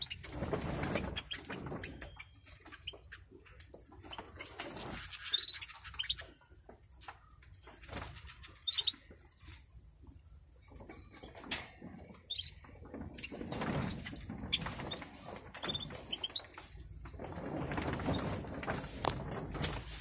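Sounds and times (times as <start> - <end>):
birds hopping and pecking seed: 0.0 - 20.0.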